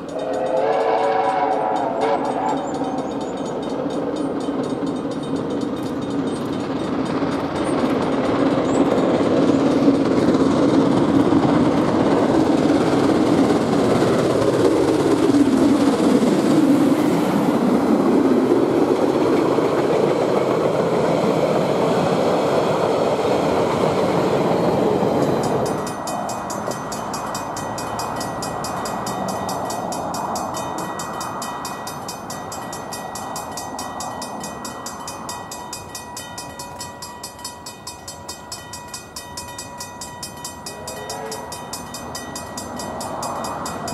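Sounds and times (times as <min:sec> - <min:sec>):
diesel locomotive passing: 0:00.0 - 0:43.9
steam locomotive exhaust beat: 0:00.0 - 0:43.9
train wheels rolling by: 0:00.0 - 0:43.9.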